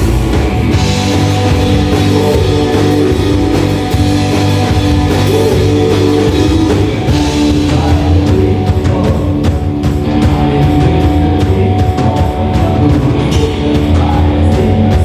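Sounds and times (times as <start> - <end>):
drum kit: 0.0 - 15.0
electric guitar: 0.0 - 15.0.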